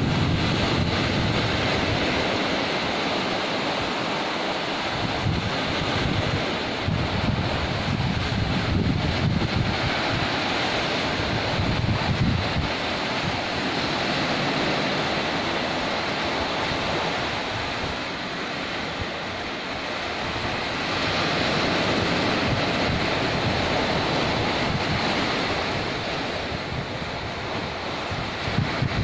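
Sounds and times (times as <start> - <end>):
waves washing up a beach: 0.0 - 29.0
wind gusting on microphone: 0.0 - 29.0.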